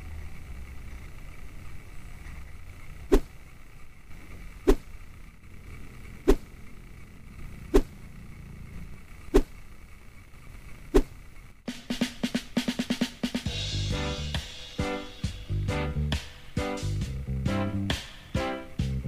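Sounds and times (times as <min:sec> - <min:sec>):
low steady hum: 0:00.0 - 0:11.7, 0:13.4 - 0:19.0.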